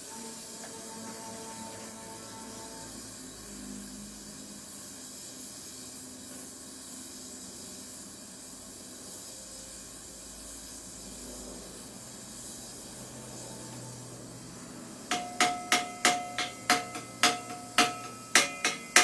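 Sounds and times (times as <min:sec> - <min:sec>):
gas torch flame hissing: 0:00.0 - 0:19.0.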